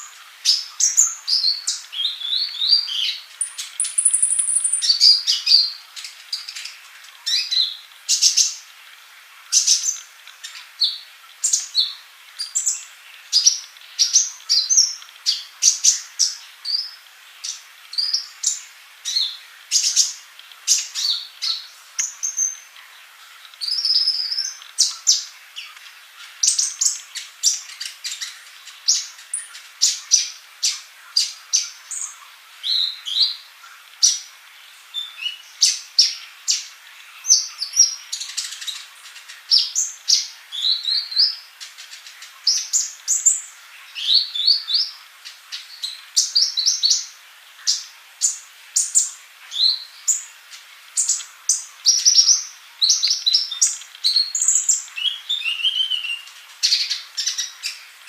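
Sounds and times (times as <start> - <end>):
bird chirping and trilling: 0.0 - 8.7, 9.5 - 58.0.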